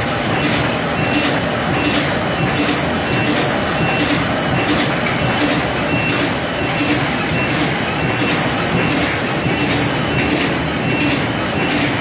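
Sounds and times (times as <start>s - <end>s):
stitching machine clattering: 0.0s - 12.0s.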